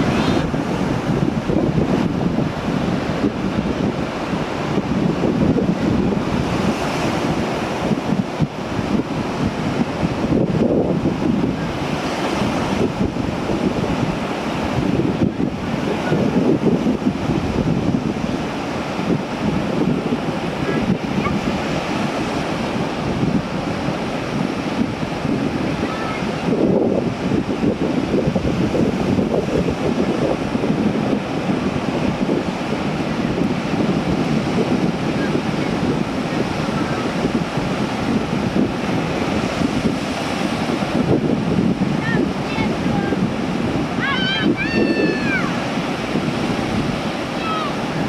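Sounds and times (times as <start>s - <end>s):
sea waves washing: 0.0s - 48.0s
wind buffeting microphone: 0.0s - 48.0s.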